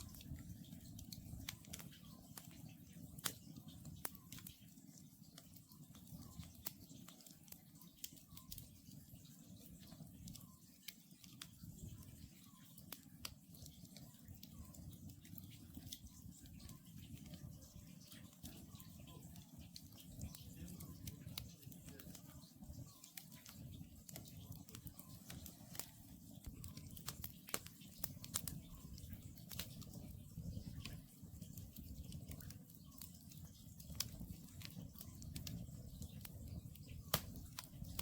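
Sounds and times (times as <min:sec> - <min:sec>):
campfire crackling and snapping: 0:00.0 - 0:38.0
low rumble of fire: 0:00.0 - 0:38.0.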